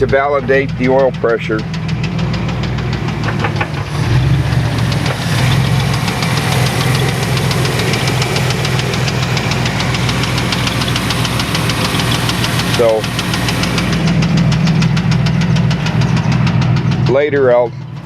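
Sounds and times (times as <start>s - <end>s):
fast engine ticking: 0.0s - 18.0s
van engine idling: 0.0s - 18.0s.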